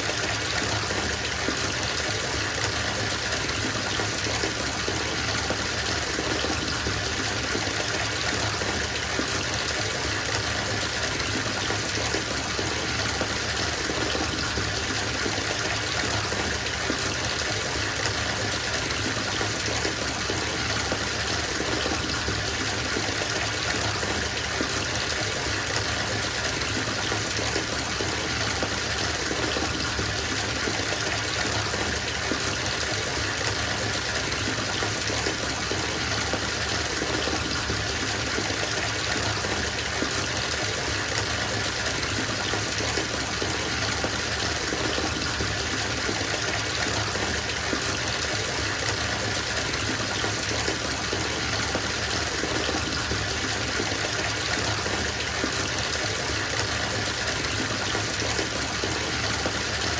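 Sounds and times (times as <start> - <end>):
water running into a bathtub: 0.0 - 59.9.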